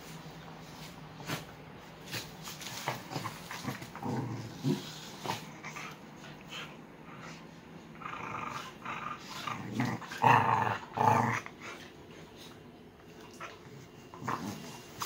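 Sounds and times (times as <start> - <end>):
dogs growling: 2.1 - 15.0.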